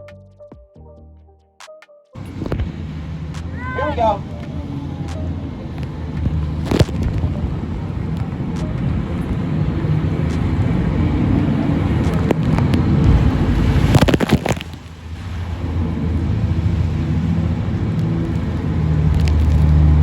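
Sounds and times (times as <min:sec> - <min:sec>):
jet boat engine rumble: 0:02.2 - 0:20.0
rushing water: 0:02.2 - 0:20.0
wind: 0:02.2 - 0:20.0.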